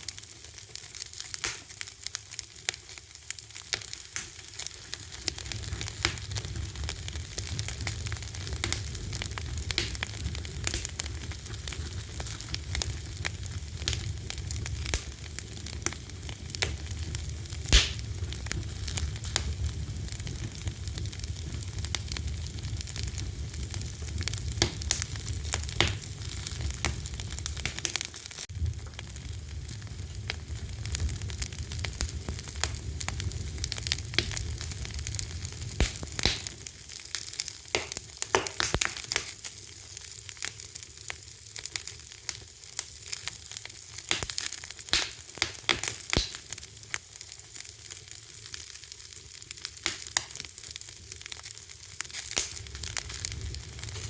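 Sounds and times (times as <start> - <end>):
fire pops and crackles: 0.0 - 54.0
wood fire hissing and rumbling: 0.0 - 54.0.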